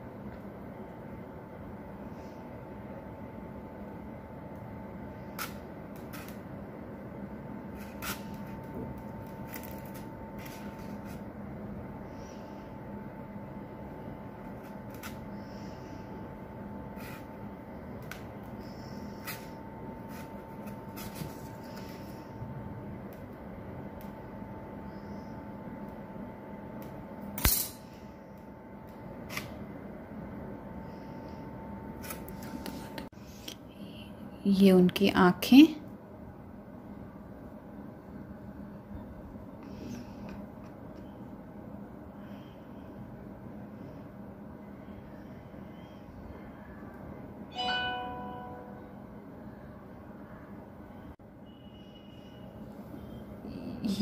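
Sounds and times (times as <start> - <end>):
background hiss and hum: 0.0 - 54.0
faint steady whine: 0.0 - 54.0.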